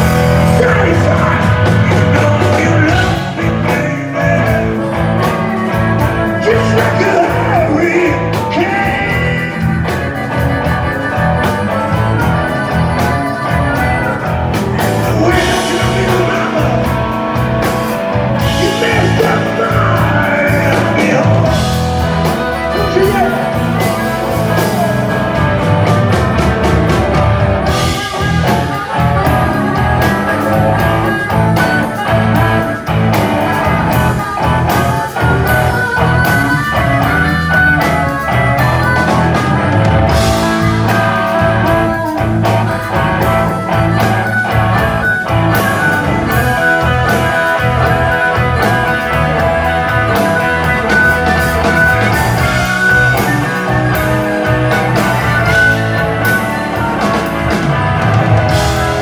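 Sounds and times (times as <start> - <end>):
blues harmonica: 0.0 - 59.0
drums: 0.0 - 59.0
electric bass: 0.0 - 59.0
electric guitar: 0.0 - 59.0.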